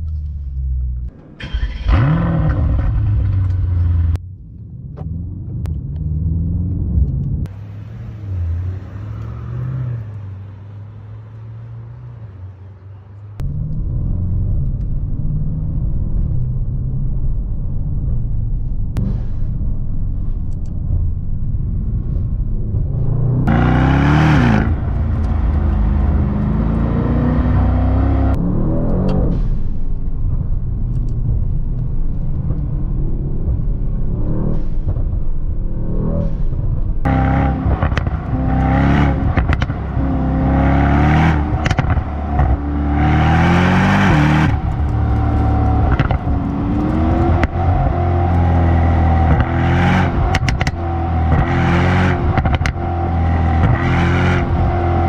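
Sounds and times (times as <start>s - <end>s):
car engine accelerating through gears: 0.1s - 12.6s, 20.1s - 55.0s.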